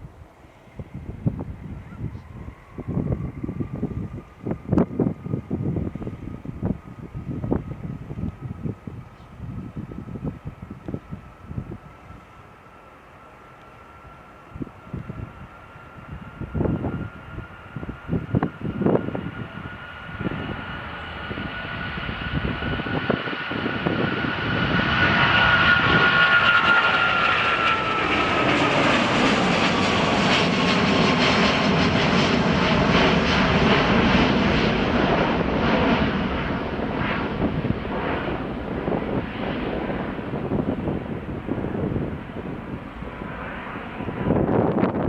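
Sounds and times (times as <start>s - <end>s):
wind buffeting microphone: 0.0s - 12.6s, 14.4s - 45.0s
jet engines at takeoff: 0.0s - 45.0s.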